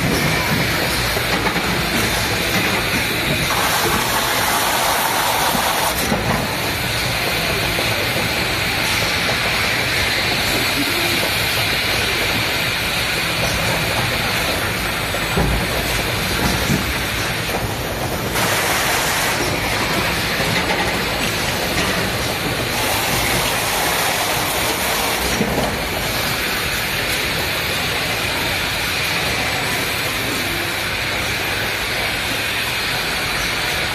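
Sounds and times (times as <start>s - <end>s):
packaging line machinery running: 0.0s - 33.9s.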